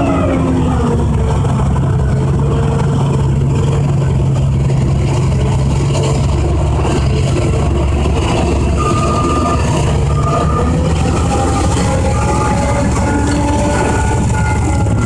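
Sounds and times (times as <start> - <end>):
large diesel engine running: 0.0 - 15.0.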